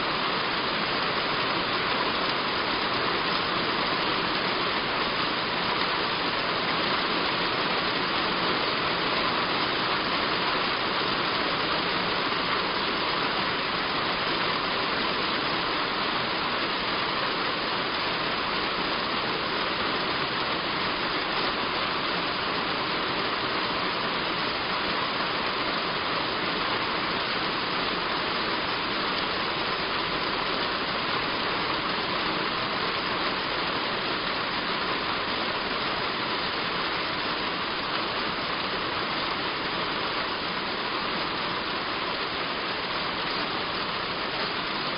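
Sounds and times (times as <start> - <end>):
heavy rain on a roof: 0.0 - 44.9.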